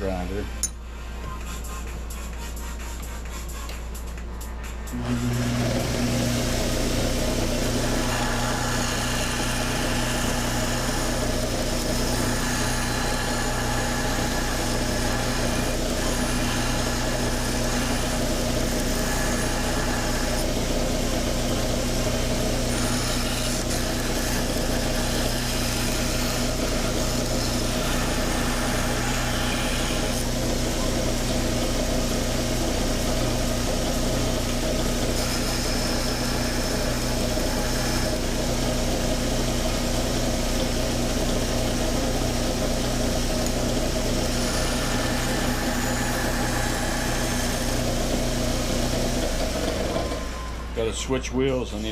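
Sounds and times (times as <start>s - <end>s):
belt grinder motor hum: 4.9s - 50.9s.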